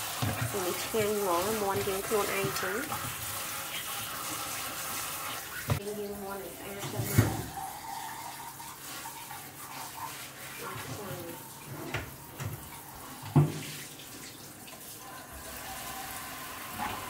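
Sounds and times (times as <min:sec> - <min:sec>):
faucet spray running into sink: 0:00.0 - 0:17.0.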